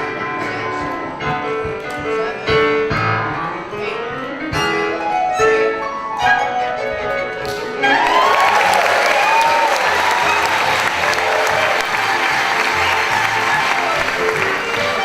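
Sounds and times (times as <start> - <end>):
piano instrumental music: 0.0 - 15.0.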